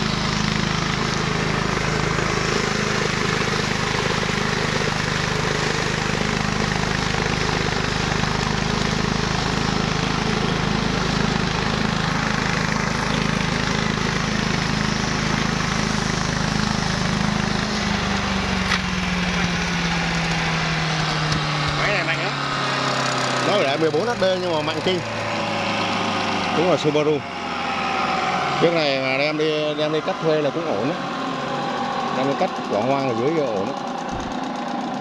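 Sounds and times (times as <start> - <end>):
petrol engine running under load: 0.0 - 35.0.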